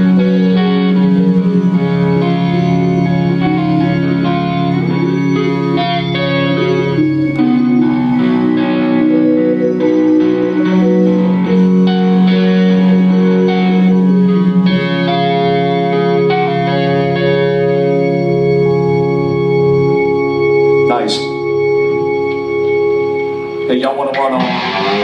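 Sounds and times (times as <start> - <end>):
guitar: 0.0 - 25.0
steady bass line: 0.0 - 25.0
sustained organ chords: 0.0 - 25.0.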